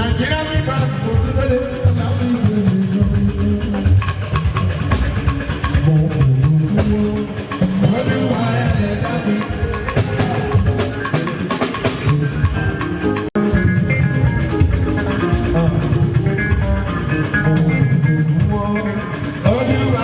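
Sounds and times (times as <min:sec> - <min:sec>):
music with drum-kit beat: 0:00.0 - 0:20.0.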